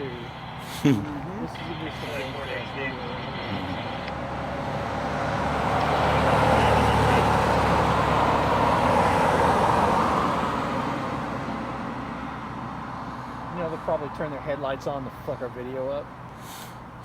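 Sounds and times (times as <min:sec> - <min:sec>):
vehicle driving past: 0:00.0 - 0:15.2.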